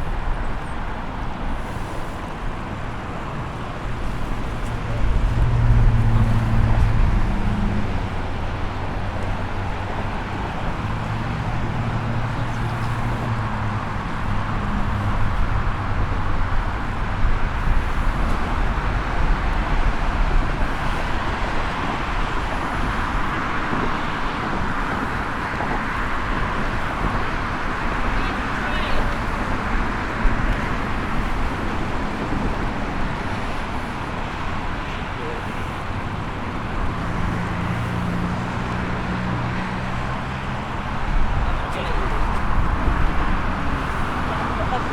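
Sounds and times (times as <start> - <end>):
large vehicle engine drone: 0.0 - 44.9
road traffic: 0.0 - 44.9.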